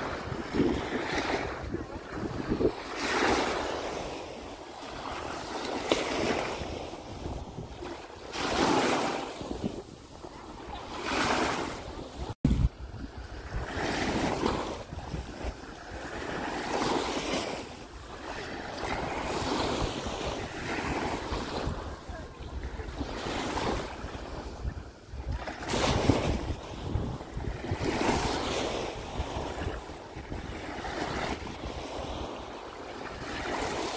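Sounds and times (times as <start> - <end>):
waves washing onto sandy beach: 0.0 - 33.9.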